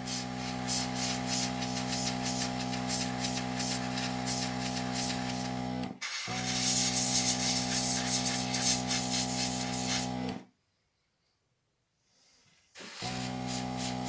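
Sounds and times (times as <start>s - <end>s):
airbrush hissing: 0.0s - 10.2s, 12.8s - 14.0s.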